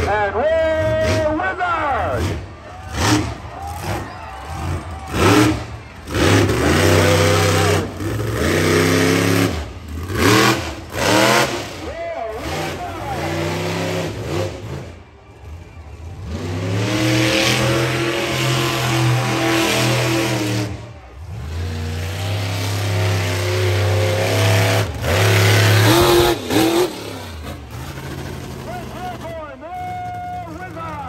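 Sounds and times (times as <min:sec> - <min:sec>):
truck engine revving hard: 0:02.0 - 0:31.0.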